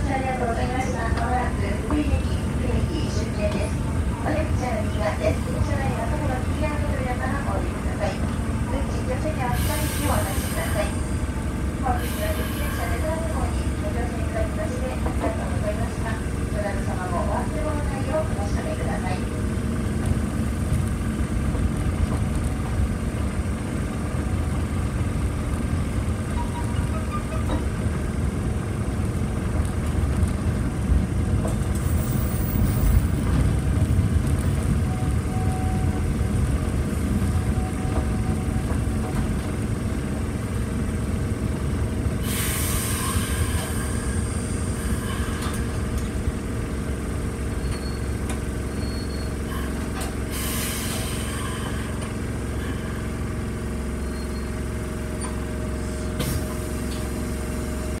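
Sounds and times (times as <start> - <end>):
standing tram humming: 0.0 - 58.0
tram rumbling: 0.0 - 58.0.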